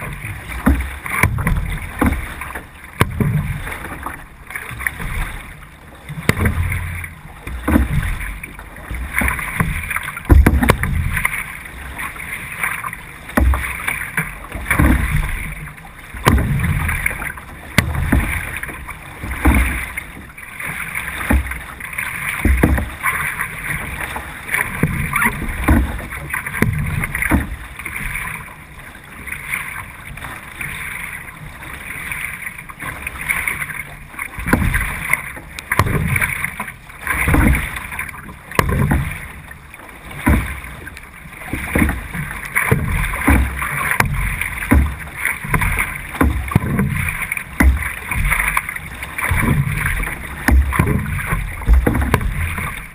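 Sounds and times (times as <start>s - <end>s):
paddle strokes surging: 0.0s - 52.9s
water rushing along hull: 0.0s - 52.9s.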